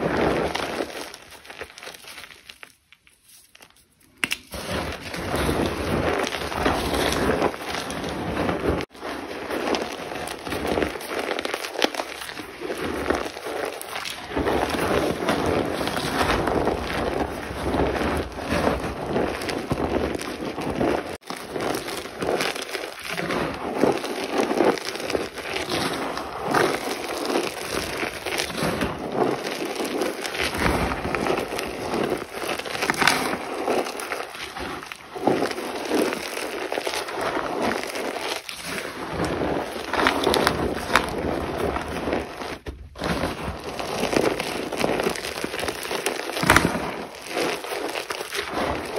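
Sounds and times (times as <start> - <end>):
chalk crunching: 0.0 - 48.9.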